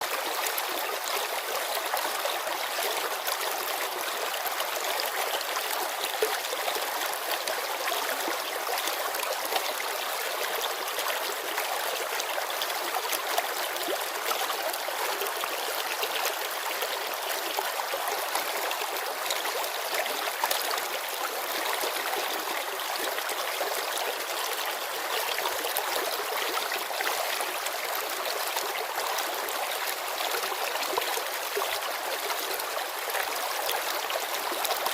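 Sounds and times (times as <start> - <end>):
river babbling over stones: 0.0 - 34.9.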